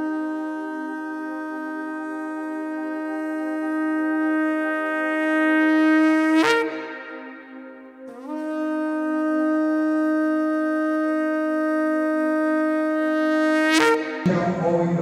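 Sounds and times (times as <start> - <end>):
shofar blast: 0.0 - 14.8.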